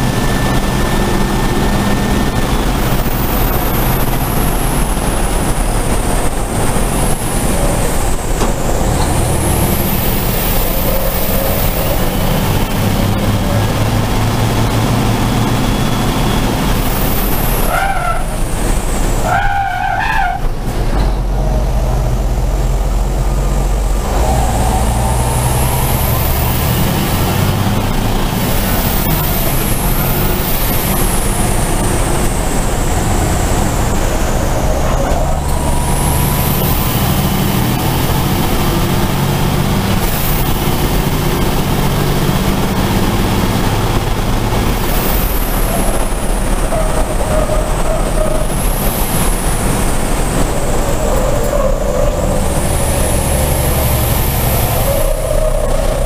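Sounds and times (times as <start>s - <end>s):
turbo-diesel engine running hard: 0.0s - 19.3s, 20.5s - 56.0s.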